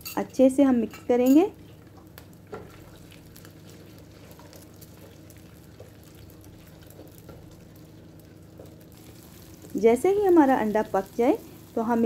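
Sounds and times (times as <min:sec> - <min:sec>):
steady low hum: 0:00.0 - 0:12.0
eggs sizzling in oil: 0:00.4 - 0:12.0.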